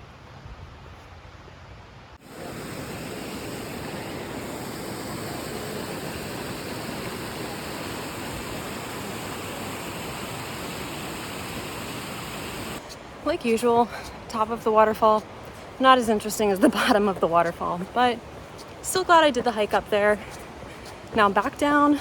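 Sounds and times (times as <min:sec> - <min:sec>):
waterfall rushing: 0:02.2 - 0:22.0.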